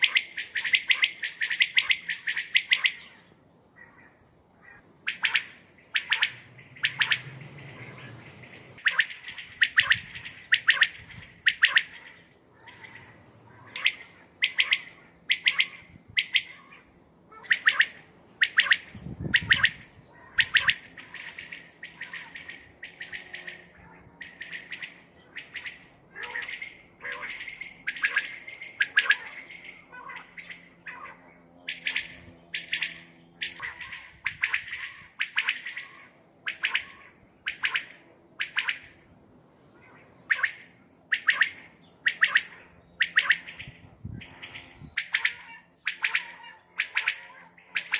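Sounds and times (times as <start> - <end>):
quail calling: 0.0 - 47.9.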